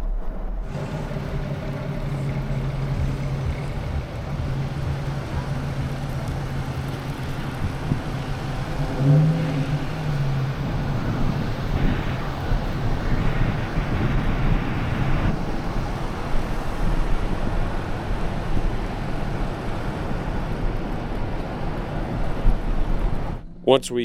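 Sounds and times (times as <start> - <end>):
car engine running: 0.0 - 23.8.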